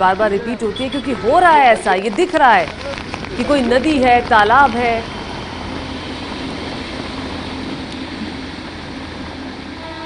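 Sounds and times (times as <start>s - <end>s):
heavy rain: 0.0s - 10.0s.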